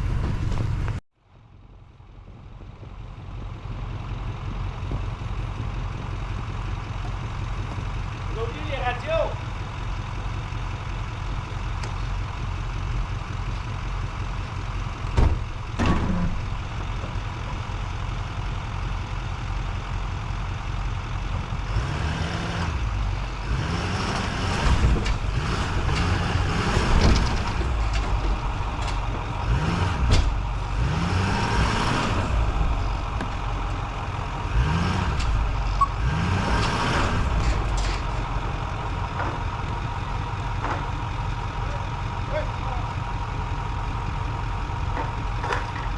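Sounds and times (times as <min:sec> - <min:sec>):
truck engine idling and revving: 0:00.0 - 0:45.9.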